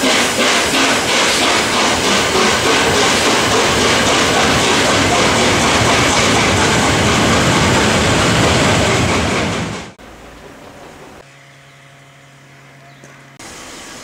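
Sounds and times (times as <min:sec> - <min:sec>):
train wheels clattering over rail joints: 0:00.0 - 0:11.2.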